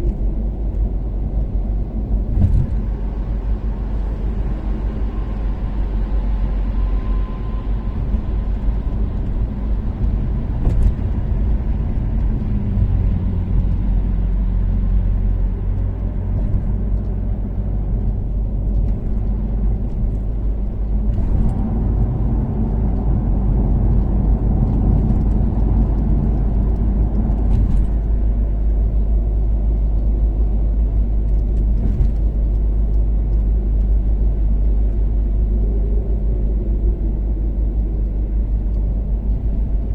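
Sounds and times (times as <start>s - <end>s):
car engine cruising: 0.0s - 39.9s
road and tyre noise: 0.0s - 39.9s.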